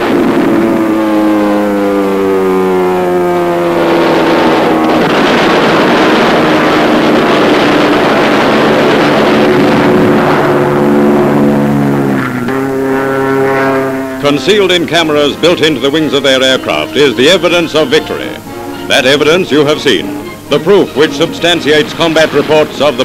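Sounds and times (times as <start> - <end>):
dense rushing roar: 0.0 - 23.0
propeller aircraft engines droning: 0.0 - 23.0.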